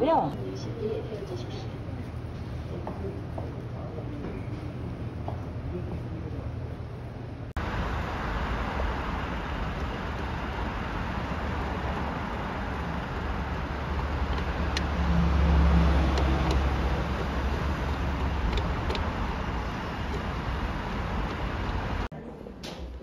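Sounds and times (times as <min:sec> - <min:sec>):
tyre and traffic rumble: 0:00.0 - 0:22.1.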